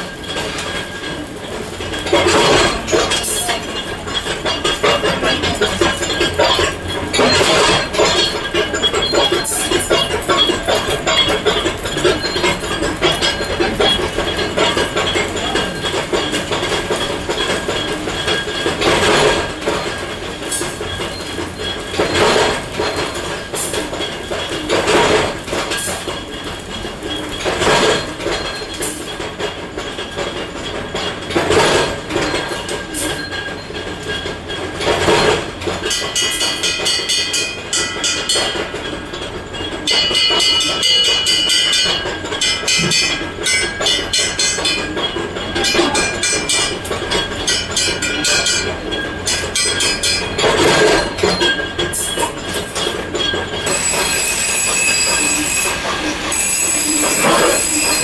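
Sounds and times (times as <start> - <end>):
factory machinery running: 0.0 - 58.0
metallic clattering with ringing tones: 0.0 - 58.0.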